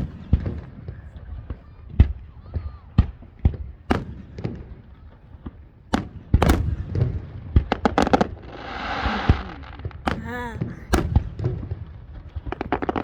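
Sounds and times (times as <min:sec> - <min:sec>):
fireworks bangs: 0:00.0 - 0:13.0
volley of firework cracks: 0:00.0 - 0:13.0.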